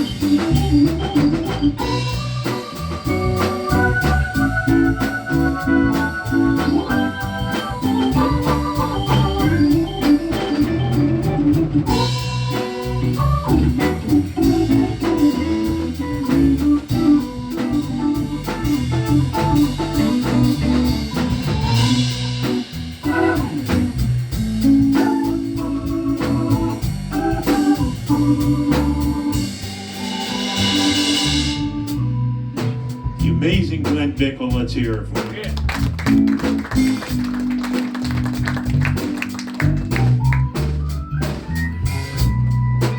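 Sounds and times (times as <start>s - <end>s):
drum kit: 0.0s - 42.9s
organ solo: 0.0s - 42.9s.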